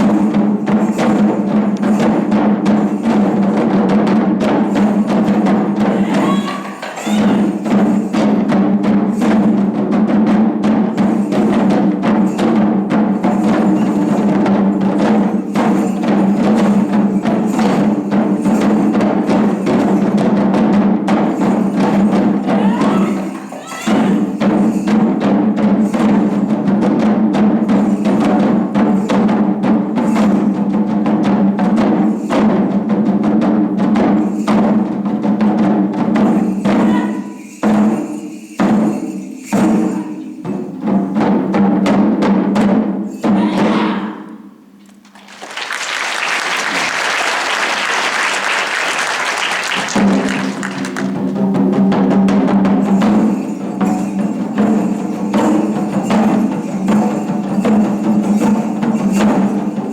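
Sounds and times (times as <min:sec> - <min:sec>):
taiko drums: 0:00.0 - 0:44.2, 0:45.0 - 0:59.9.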